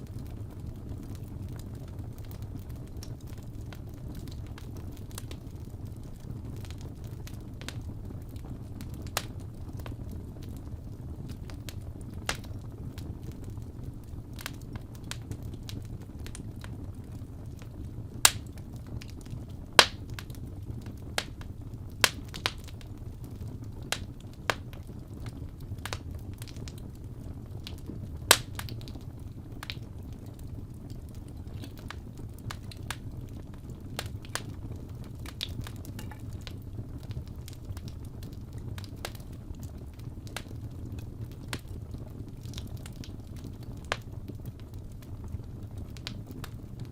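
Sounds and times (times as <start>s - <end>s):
fire crackles and pops: 0.0s - 46.9s
low rumble of flame: 0.0s - 46.9s.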